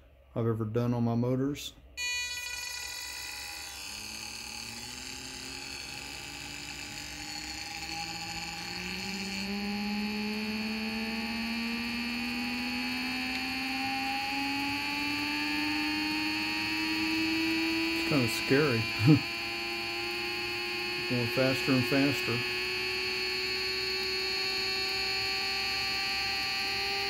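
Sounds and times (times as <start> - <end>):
electric motor spinning up: 2.0 - 27.0
high-pitched whine: 2.0 - 27.0.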